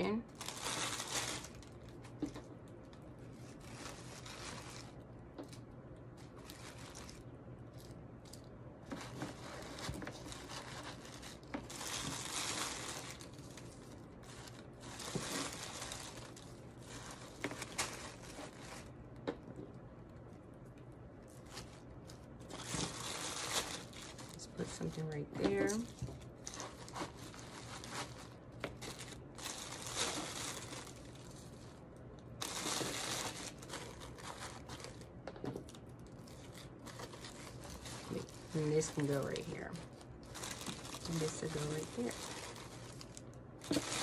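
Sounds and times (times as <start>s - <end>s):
paper and plastic bag rustling: 0.0s - 19.0s, 21.2s - 44.0s.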